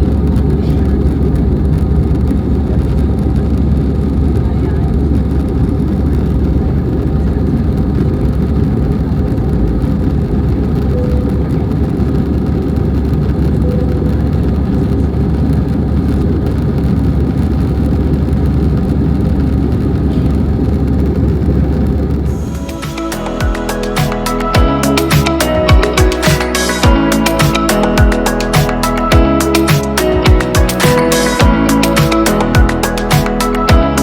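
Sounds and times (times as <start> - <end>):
airliner cabin engine drone: 0.0 - 33.8.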